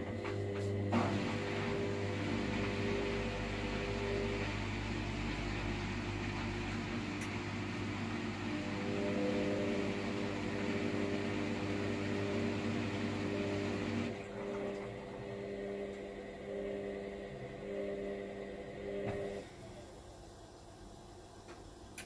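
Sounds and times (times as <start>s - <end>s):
washer-dryer motor hum: 0.0s - 22.0s.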